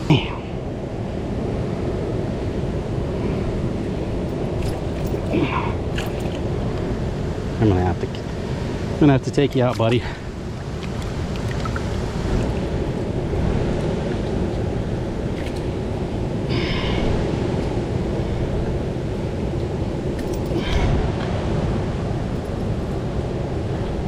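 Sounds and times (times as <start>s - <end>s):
creek water rushing: 0.0s - 24.0s
wind rumbling on microphone: 0.0s - 24.0s.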